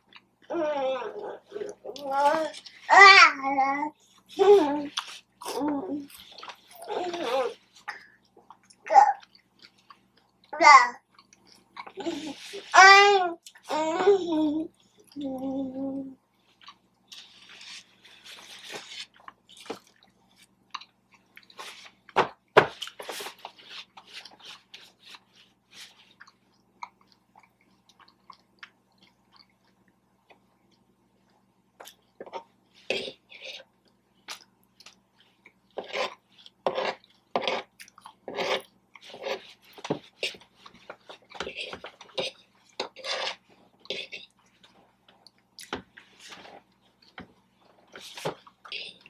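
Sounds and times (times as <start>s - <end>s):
close-up chewing and mouth sounds: 0.0s - 0.5s, 4.0s - 12.7s, 13.4s - 13.7s, 16.3s - 49.0s.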